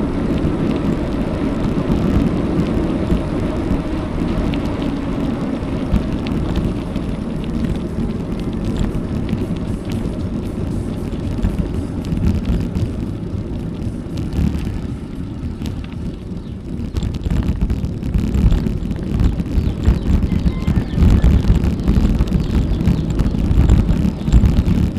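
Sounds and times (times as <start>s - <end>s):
tyre rumble on road: 0.0s - 24.9s
wind buffeting microphone: 0.0s - 24.9s.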